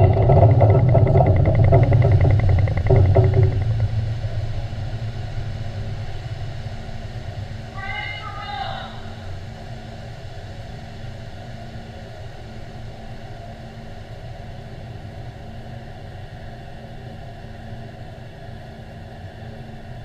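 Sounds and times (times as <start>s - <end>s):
faint steady hum: 0.0s - 20.0s
low rumbling engine drone: 0.0s - 20.0s.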